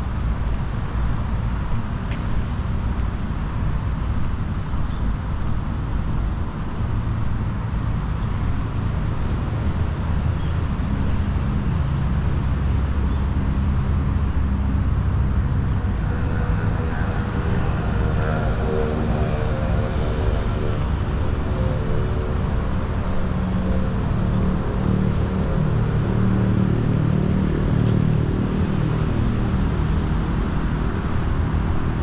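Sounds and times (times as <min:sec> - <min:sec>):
road traffic rumble: 0:00.0 - 0:32.0
vehicle engine hum: 0:00.0 - 0:32.0.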